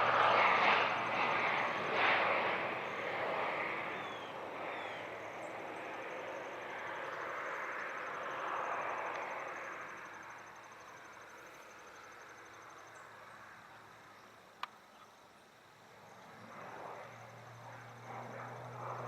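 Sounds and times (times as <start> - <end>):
airplane engine flying away: 0.0 - 19.0.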